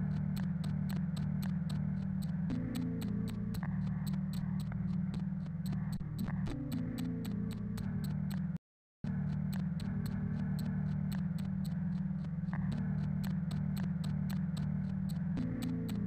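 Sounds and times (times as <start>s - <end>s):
low electronic humming drone: 0.0s - 16.0s
steady ticking clicks: 0.0s - 16.0s.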